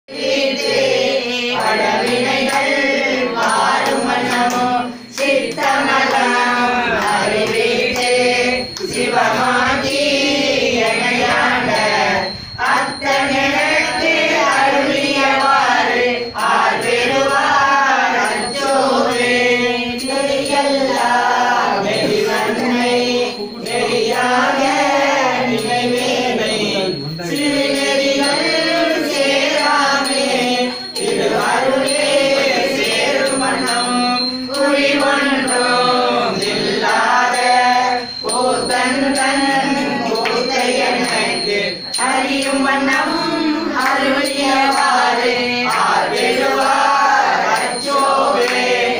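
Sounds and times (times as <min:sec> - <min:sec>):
group of voices chanting: 0:00.1 - 0:48.9.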